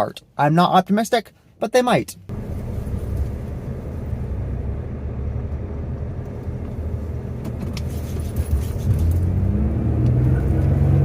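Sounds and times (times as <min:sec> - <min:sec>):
road noise while driving: 0:01.3 - 0:11.0
car engine rumble: 0:02.2 - 0:11.0.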